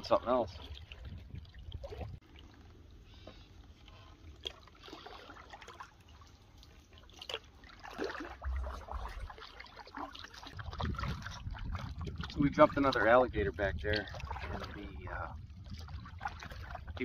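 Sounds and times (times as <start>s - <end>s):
paddle dipping in water: 0.3s - 17.0s
water dripping off paddle: 0.6s - 14.8s.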